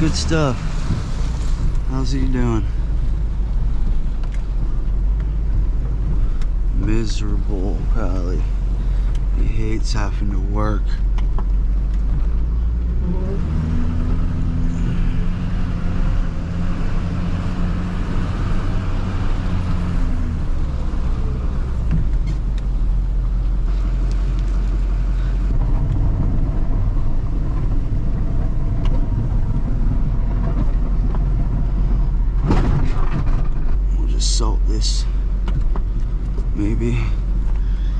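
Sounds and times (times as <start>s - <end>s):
truck engine rumbling: 0.0s - 37.9s.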